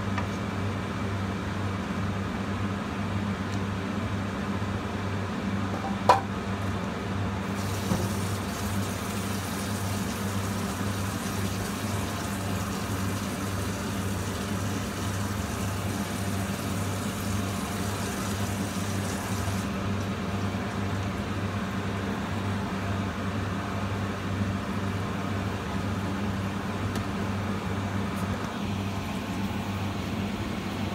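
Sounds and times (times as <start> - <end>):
kitchen fan hum: 0.0 - 30.9.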